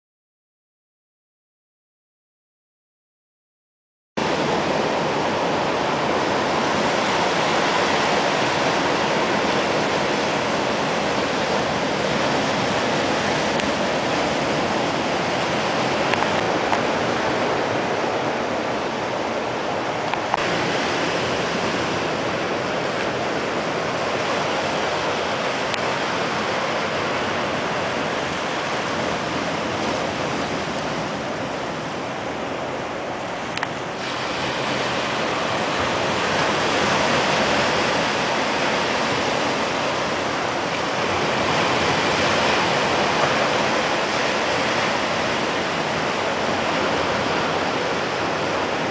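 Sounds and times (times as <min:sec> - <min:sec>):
ocean surf breaking on beach: 0:04.2 - 0:48.9.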